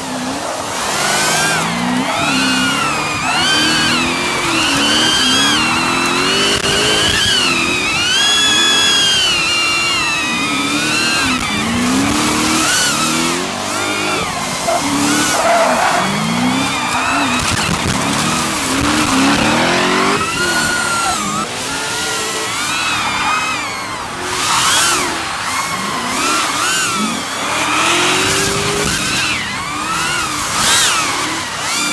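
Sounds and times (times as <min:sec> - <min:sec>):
car engine revving: 0:00.0 - 0:31.9
tires squealing: 0:00.0 - 0:31.9.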